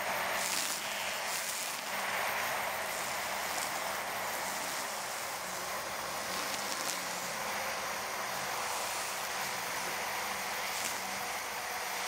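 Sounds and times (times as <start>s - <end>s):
distant grass trimmer running: 0.0s - 12.0s
highway traffic noise: 0.0s - 12.0s.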